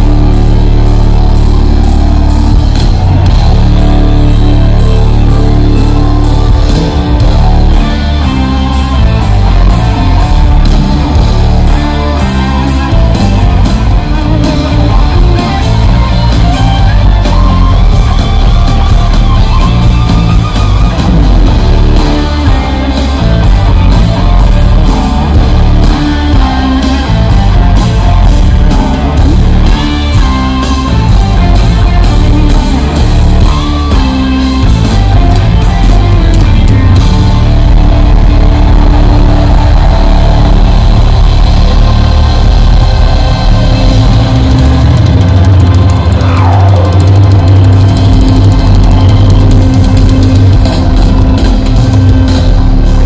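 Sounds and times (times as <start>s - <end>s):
bass guitar: 0.0s - 53.0s
electric guitars: 0.0s - 53.0s
hard-hit drum beat: 0.0s - 53.0s
keyboards: 0.0s - 53.0s.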